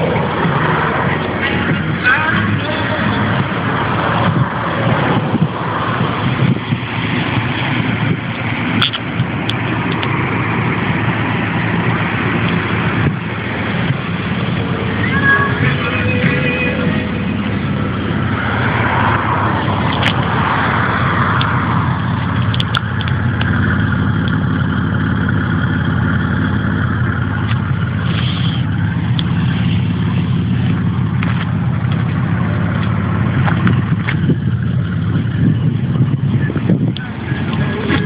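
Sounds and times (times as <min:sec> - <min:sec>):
car engine low drone: 0:00.0 - 0:38.0.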